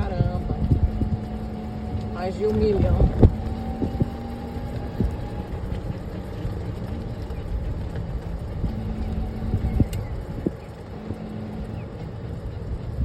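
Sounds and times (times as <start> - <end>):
golf cart humming: 0.0 - 13.0.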